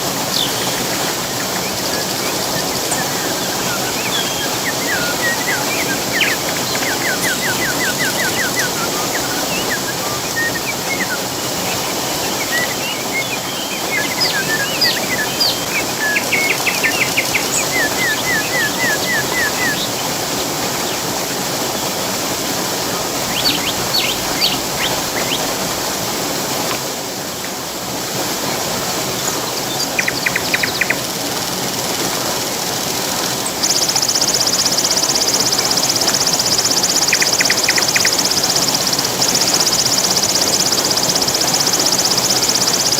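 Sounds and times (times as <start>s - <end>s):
birds chirping: 0.0s - 42.9s
waterfall rushing: 0.0s - 42.9s.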